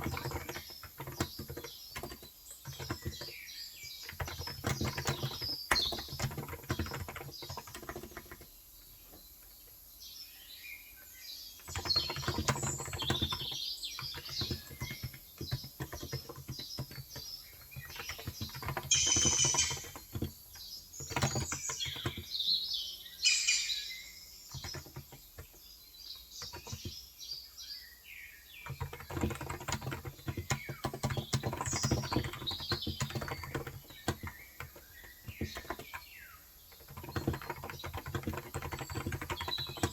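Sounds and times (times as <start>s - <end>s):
keyboard typing: 0.0s - 9.6s, 11.6s - 27.1s, 28.6s - 39.9s
small birds chirping: 0.0s - 39.9s.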